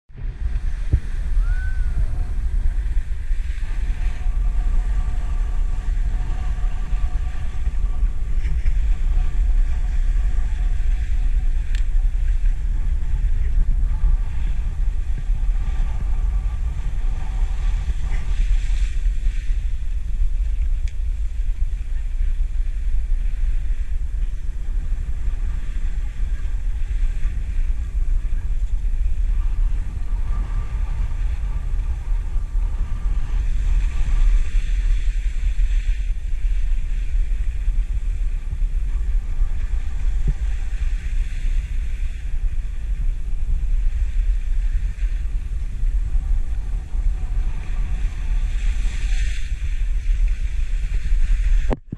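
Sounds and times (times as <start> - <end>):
wind buffeting microphone: 0.0 - 51.9
skis gliding over snow: 0.1 - 51.9.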